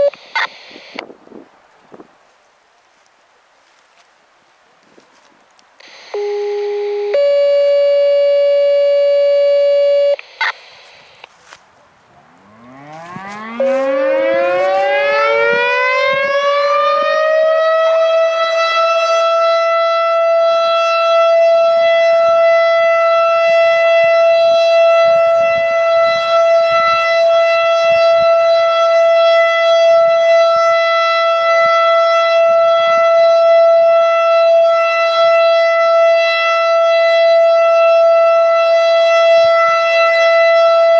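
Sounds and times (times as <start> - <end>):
siren steady tones: 0.0 - 1.0, 5.8 - 11.3, 12.1 - 40.9
siren winding up to wail: 0.0 - 1.0, 5.8 - 10.6, 12.3 - 40.9.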